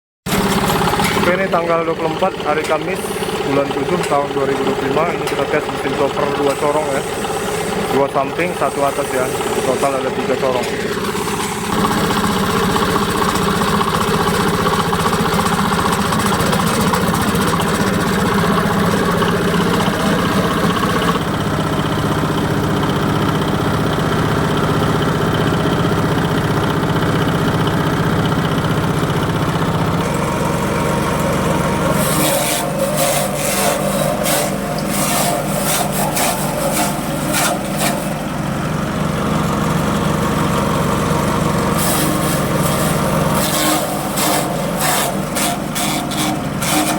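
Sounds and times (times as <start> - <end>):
grass chopper engine running: 0.2 - 46.9.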